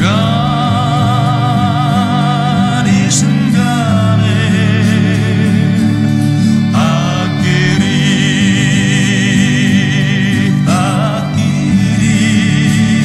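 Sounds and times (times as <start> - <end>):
slow song with sung melody: 0.0 - 13.0.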